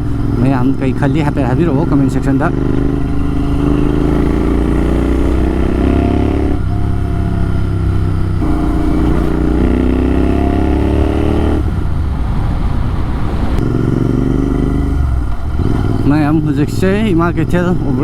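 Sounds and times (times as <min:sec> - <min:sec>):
loud motorcycle exhaust revving: 0:00.0 - 0:11.9, 0:13.6 - 0:18.0.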